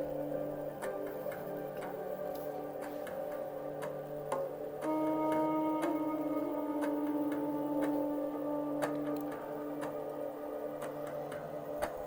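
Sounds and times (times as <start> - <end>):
ticking beat: 0.0 - 12.0.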